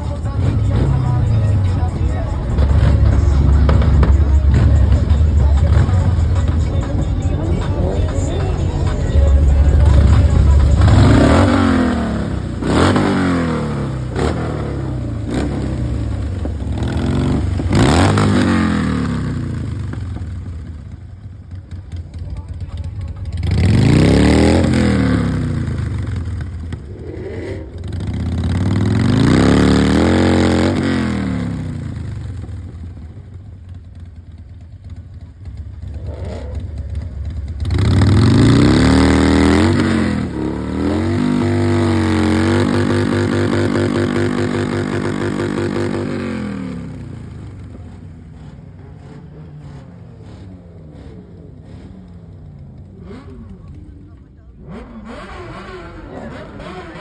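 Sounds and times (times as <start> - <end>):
car engine revving: 0.0 - 20.9, 23.1 - 33.2, 35.8 - 57.0.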